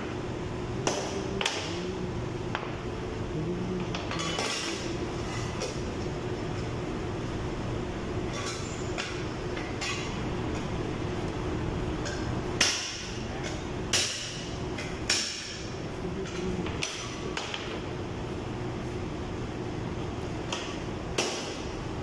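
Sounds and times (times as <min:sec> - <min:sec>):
workshop hum: 0:00.0 - 0:22.0.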